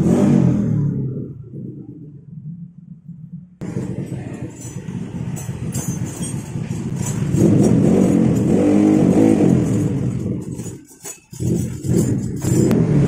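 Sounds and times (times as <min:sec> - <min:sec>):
scooter engine idling and revving: 0:00.0 - 0:13.0.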